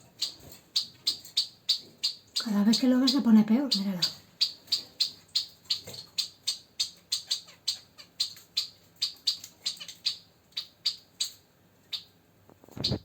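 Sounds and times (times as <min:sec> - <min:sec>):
finch chirping: 0:00.0 - 0:13.0.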